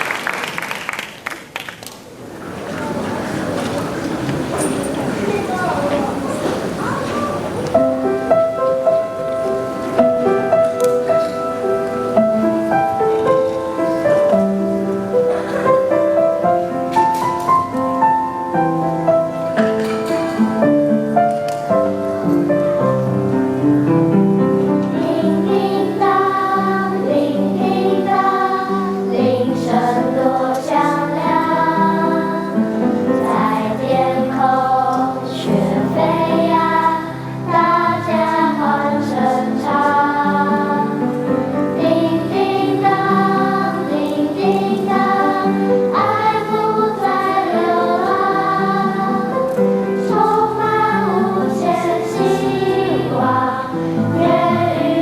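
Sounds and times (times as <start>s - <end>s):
children's choir singing: 2.2s - 55.0s.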